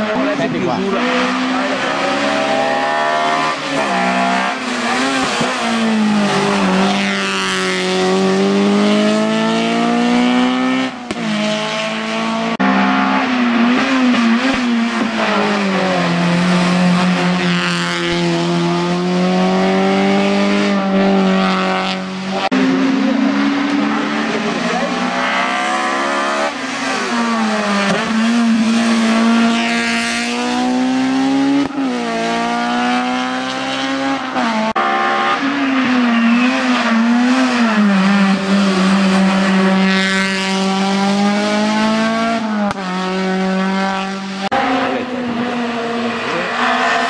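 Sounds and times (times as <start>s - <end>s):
race car engine at full throttle: 0.0s - 47.0s.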